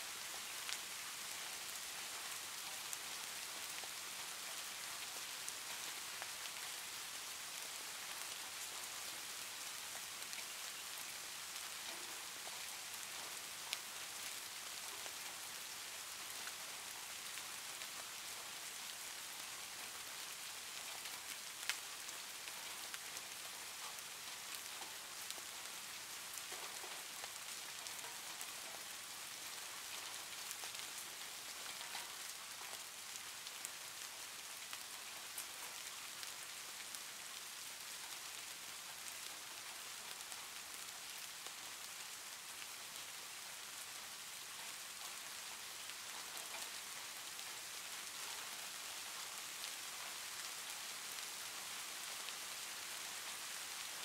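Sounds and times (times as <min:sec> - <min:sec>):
light rain hissing: 0:00.0 - 0:54.0.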